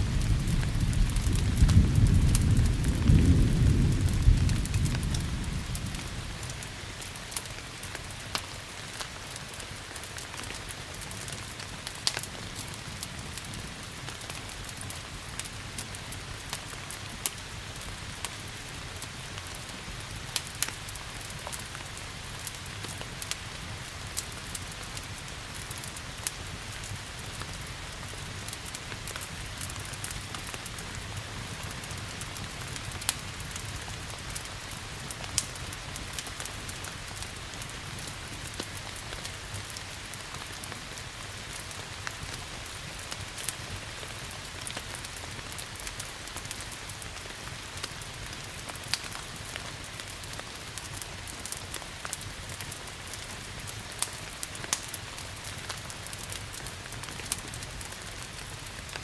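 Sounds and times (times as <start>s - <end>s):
crackling fire: 0.0s - 59.0s
rain hiss: 0.0s - 59.0s.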